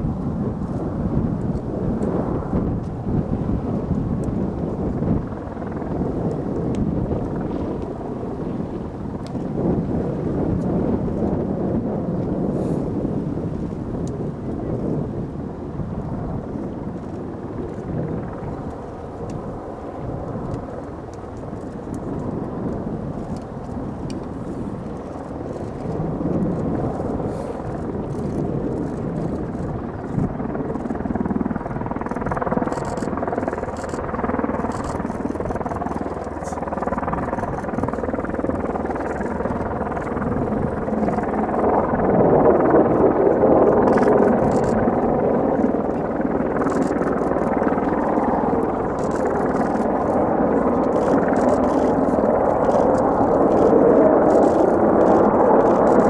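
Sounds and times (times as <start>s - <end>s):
loud jet engine noise: 0.0s - 56.0s.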